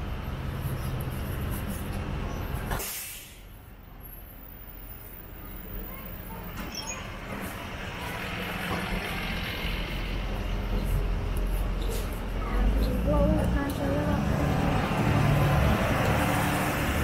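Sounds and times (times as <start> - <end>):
traffic noise wash: 0.0 - 17.0
vehicle engine hum: 0.0 - 17.0.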